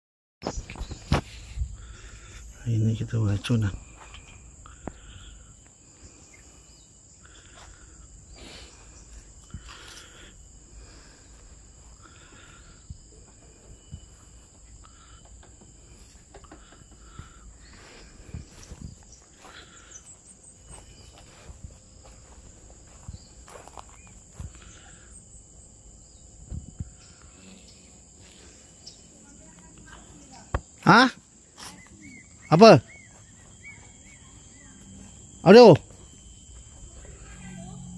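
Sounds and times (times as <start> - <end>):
insects droning: 0.4 - 37.9.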